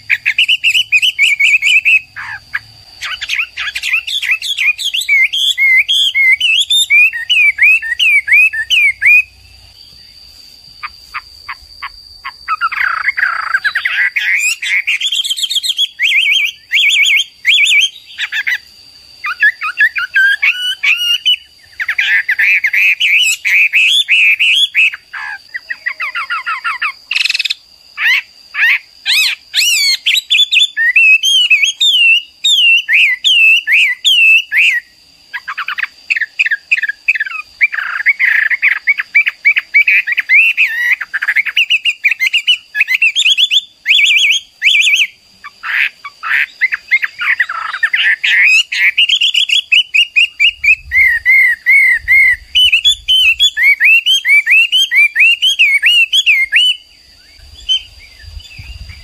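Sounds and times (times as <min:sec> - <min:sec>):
bird singing whistled song: 0:00.0 - 0:10.2, 0:10.8 - 0:45.2, 0:46.2 - 0:59.0.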